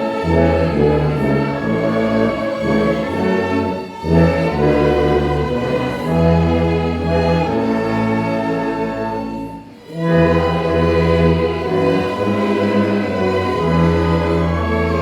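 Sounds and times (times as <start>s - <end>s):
orchestra playing a hymn: 0.0s - 15.0s
tuba low notes: 0.0s - 15.0s
voices singing: 0.0s - 15.0s.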